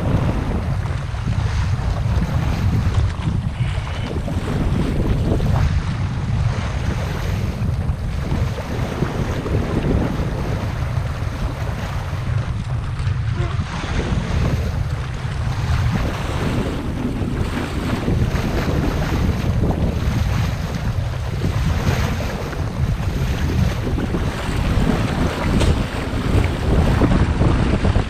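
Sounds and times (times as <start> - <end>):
water splashing against hull: 0.0 - 28.0
wind buffeting microphone: 0.0 - 28.0.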